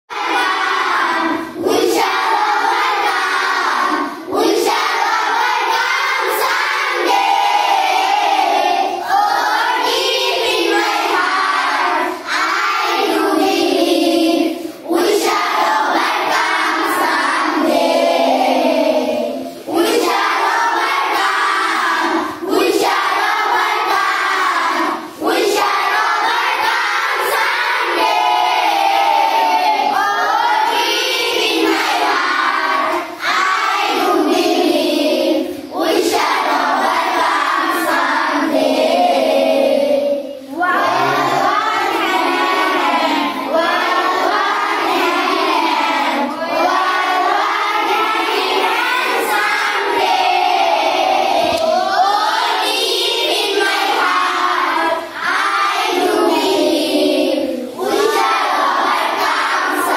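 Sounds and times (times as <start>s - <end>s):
children singing in unison: 0.0s - 59.9s.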